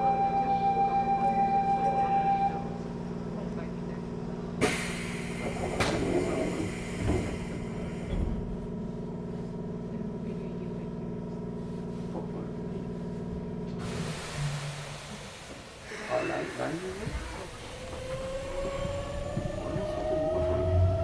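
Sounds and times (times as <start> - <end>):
train equipment hum: 0.0 - 21.0.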